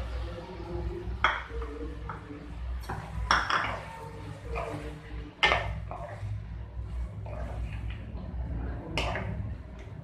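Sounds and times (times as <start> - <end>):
spatula stirring vegetables in pan: 0.9 - 10.0.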